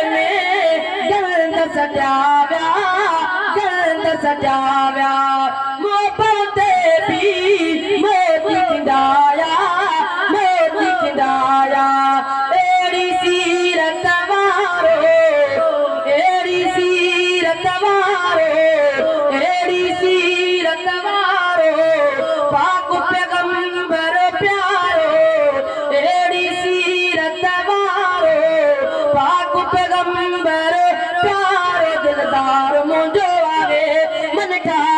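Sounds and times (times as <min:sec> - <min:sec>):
boy singing into a microphone: 0:00.0 - 0:34.9.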